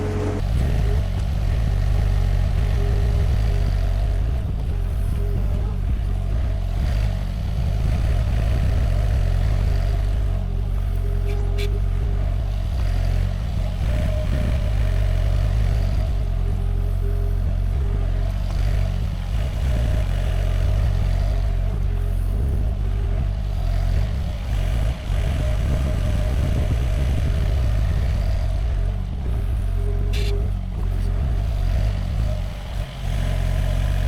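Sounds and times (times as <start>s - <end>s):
excavator diesel engine running: 0.0s - 34.0s
hydraulic whine: 0.0s - 34.0s.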